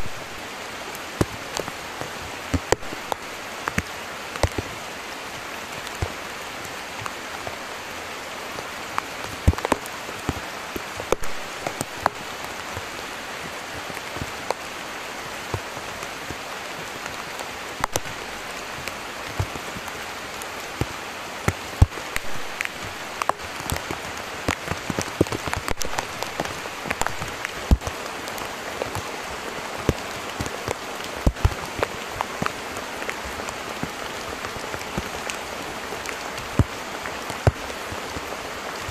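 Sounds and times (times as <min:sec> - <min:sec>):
heavy rain hiss: 0:00.0 - 0:38.9
raindrop hits on pebbles: 0:00.0 - 0:38.9.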